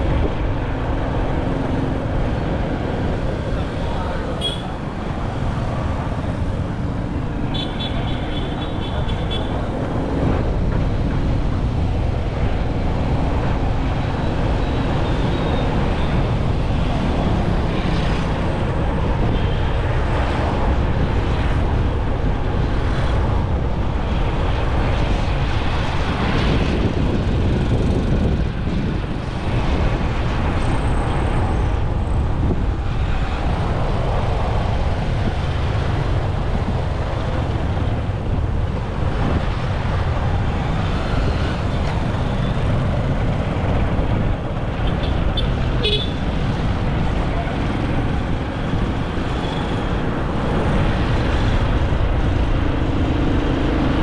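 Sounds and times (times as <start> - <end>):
wind rush on microphone: 0.0 - 54.0.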